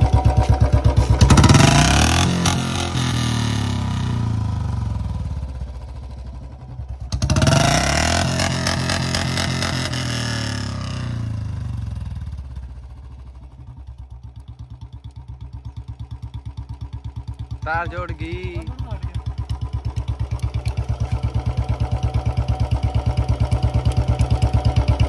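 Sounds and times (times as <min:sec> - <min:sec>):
motorcycle engine revving and idling: 0:00.0 - 0:25.0.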